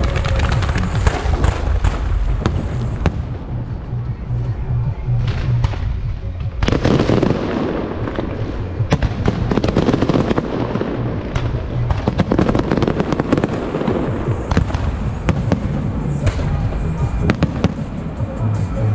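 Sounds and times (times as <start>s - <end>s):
fireworks bursting and crackling: 0.0s - 18.4s
low rumble: 0.0s - 18.9s.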